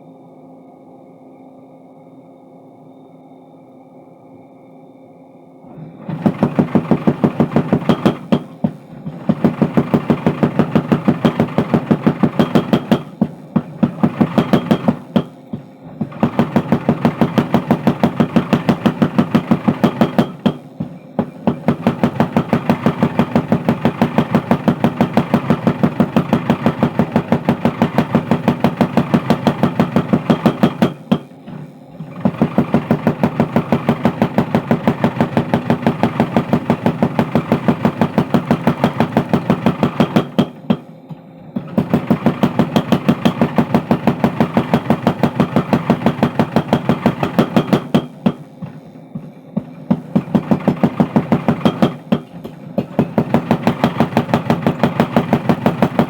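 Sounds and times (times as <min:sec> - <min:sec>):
power hammer forging steel: 0:05.8 - 0:56.0.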